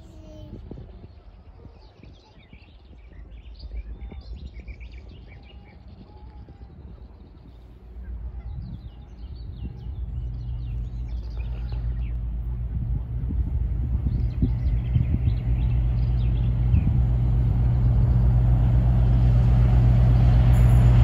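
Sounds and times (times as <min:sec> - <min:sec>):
small birds chirping: 0:00.0 - 0:18.5
diesel locomotive drone: 0:00.0 - 0:21.0.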